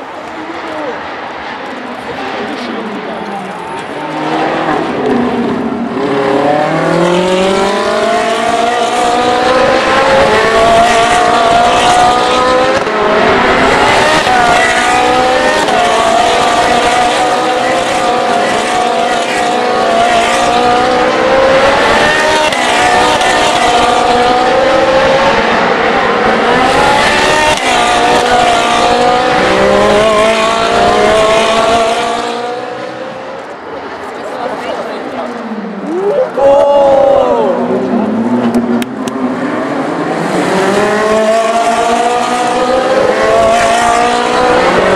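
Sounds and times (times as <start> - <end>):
race car engines accelerating: 0.0 - 44.9.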